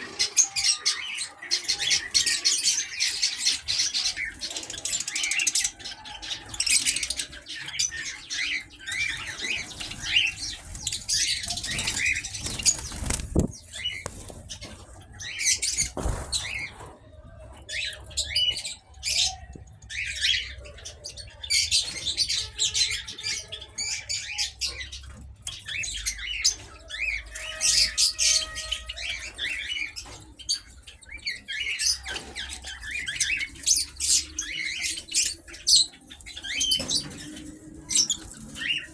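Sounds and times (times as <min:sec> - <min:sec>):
flock of small birds chirping: 0:00.0 - 0:38.9.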